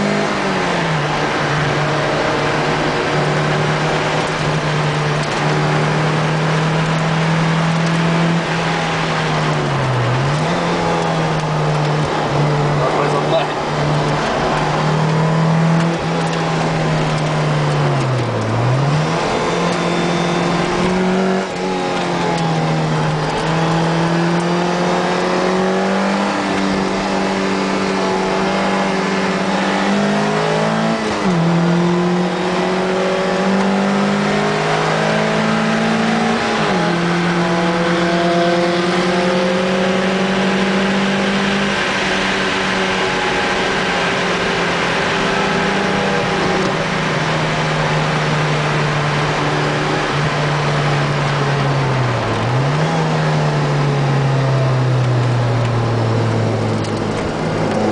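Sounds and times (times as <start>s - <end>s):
racing car engine: 0.0s - 57.9s.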